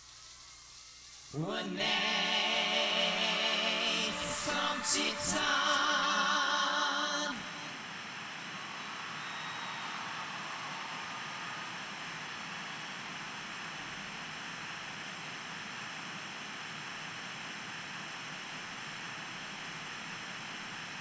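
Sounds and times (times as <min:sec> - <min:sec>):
tv static hiss: 0:00.0 - 0:21.0.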